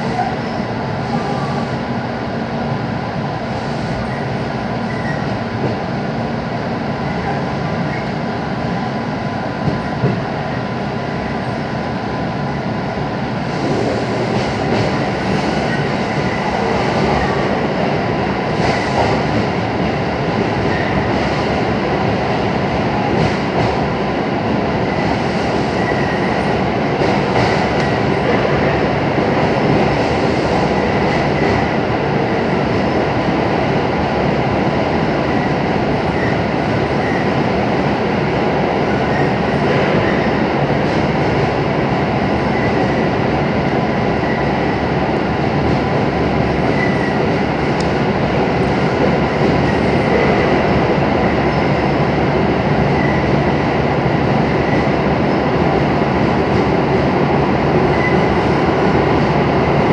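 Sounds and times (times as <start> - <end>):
train rumble and rail noise: 0.0 - 59.9.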